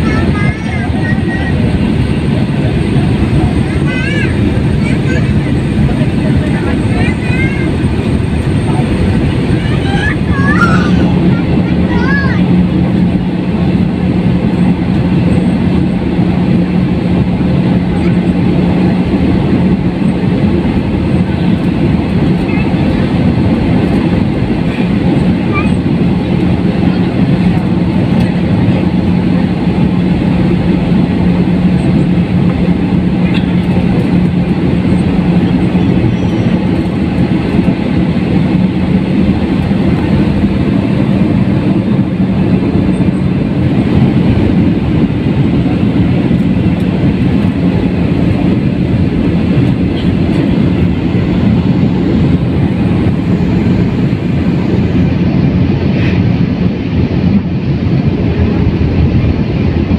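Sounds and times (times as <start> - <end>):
constant low hum: 0.0 - 59.9
jet engines and rushing airflow: 0.0 - 59.9.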